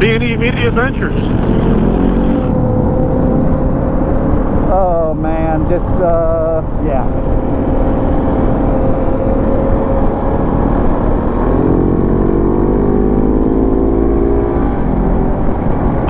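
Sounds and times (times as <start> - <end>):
motorcycle engine accelerating: 0.0 - 5.5, 7.0 - 16.0
wind and road rush: 0.0 - 16.0.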